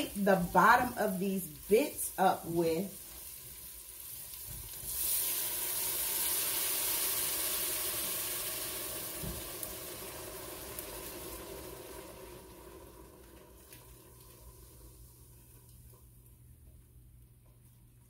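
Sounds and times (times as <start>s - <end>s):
loud sizzle and hiss of steam: 0.0s - 15.5s.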